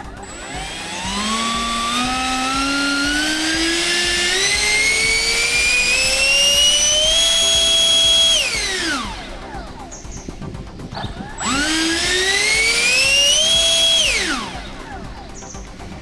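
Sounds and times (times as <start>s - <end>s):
electric ducted fan whining: 0.0s - 16.0s.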